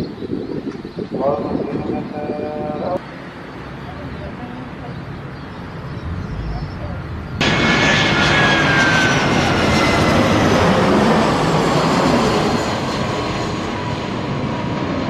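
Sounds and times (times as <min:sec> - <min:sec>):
jet airliner engines passing: 0:00.2 - 0:15.0.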